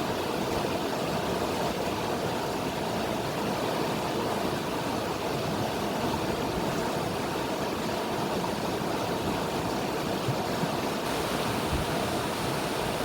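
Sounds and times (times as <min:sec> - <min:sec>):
river water over rocks: 0:00.0 - 0:13.0.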